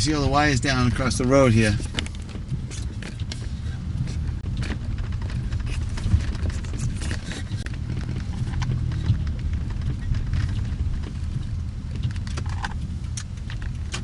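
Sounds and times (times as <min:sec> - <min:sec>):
car engine rumble: 0:00.0 - 0:14.0
road noise inside car: 0:00.0 - 0:14.0.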